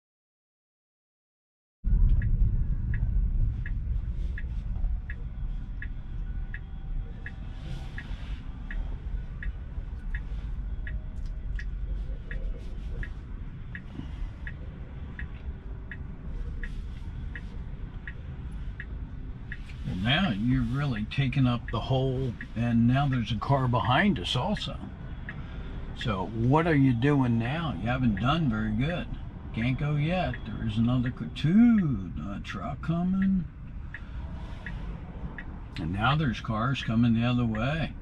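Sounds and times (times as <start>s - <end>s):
low cabin rumble: 1.8s - 38.0s
turn signal ticking: 1.9s - 38.0s.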